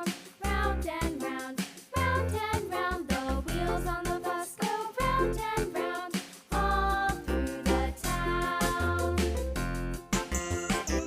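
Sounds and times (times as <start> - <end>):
upbeat children's music: 0.0 - 11.0.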